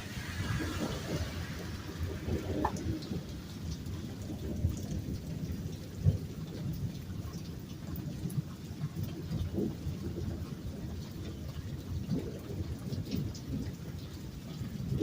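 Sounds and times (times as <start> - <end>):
thunder rumbling: 0.0 - 8.5, 9.2 - 15.0
rain falling: 0.0 - 15.0.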